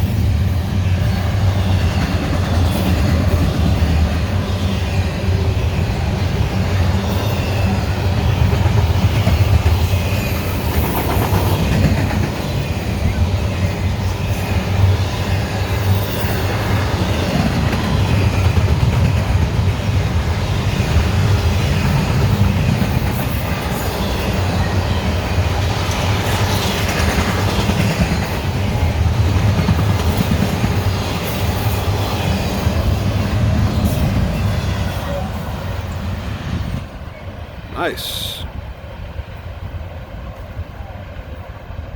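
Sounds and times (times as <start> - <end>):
freight train wheels rumbling on rails: 0.0 - 41.9.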